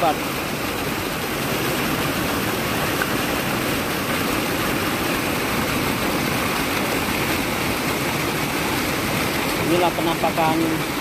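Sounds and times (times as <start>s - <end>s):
river water rushing over dam: 0.0s - 11.0s.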